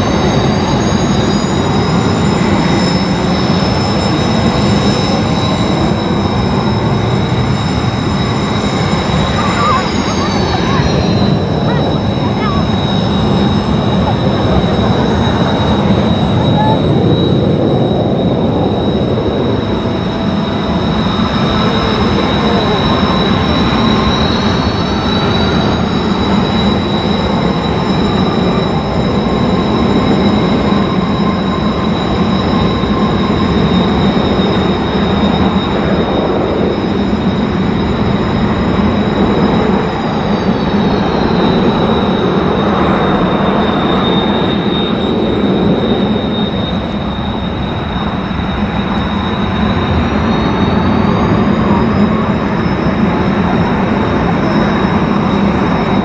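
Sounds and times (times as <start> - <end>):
jet engine roar with whine: 0.0 - 56.0.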